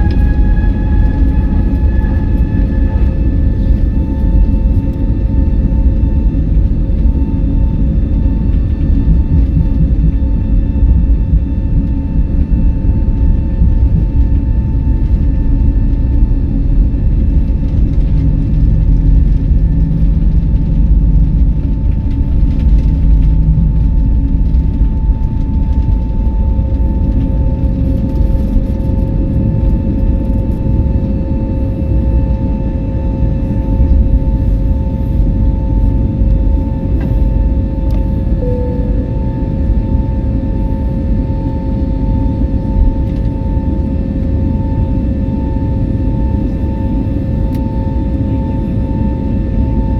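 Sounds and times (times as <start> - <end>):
jet engine rumble in cabin: 0.0 - 49.9
jet engine whine: 0.0 - 49.9.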